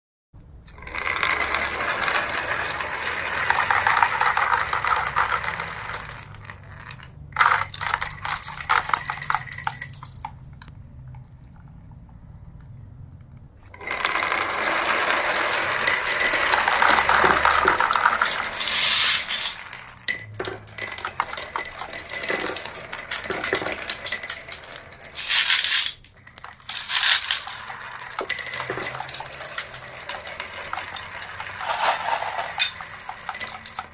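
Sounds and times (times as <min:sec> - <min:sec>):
marbles rolling down a track: 0:00.7 - 0:10.5, 0:13.8 - 0:33.9.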